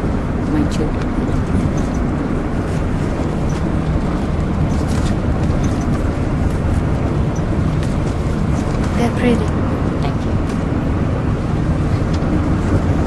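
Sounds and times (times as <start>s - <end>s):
bus rumbling: 0.0s - 13.0s.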